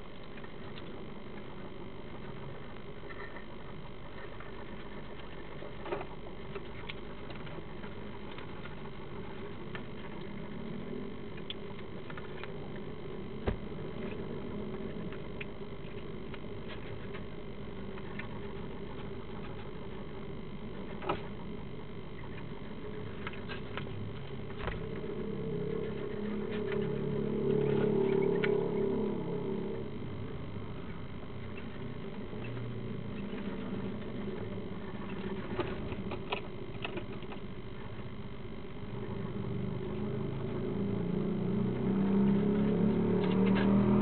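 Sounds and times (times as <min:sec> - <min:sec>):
low hum and hiss: 0:00.0 - 0:44.0.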